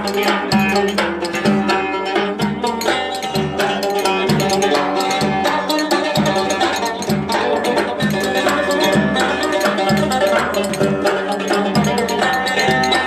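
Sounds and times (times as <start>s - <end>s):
low drum beats: 0.0s - 13.0s
plucked folk dance melody: 0.0s - 13.0s.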